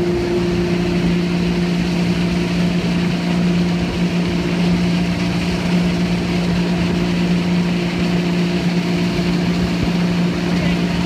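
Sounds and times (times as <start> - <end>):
boat engine drone: 0.0 - 11.0
water rushing and spraying: 0.0 - 11.0.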